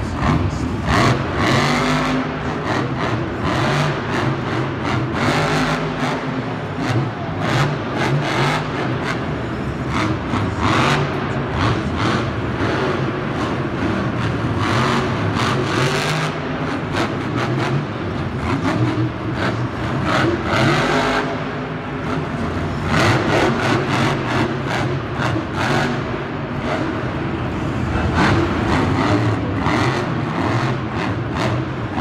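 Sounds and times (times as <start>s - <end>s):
truck engines revving: 0.0s - 32.0s.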